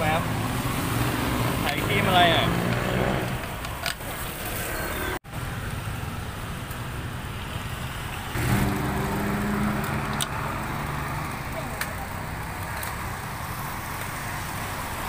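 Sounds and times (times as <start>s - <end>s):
roadside traffic noise: 0.0s - 15.0s
vehicle engine humming: 0.0s - 15.0s.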